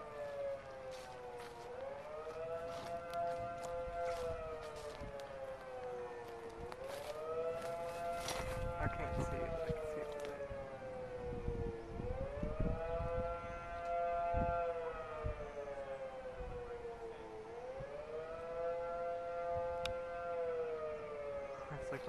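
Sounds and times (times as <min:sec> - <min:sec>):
low rumbling wind: 0:00.0 - 0:20.4
warning siren wailing: 0:00.0 - 0:22.0.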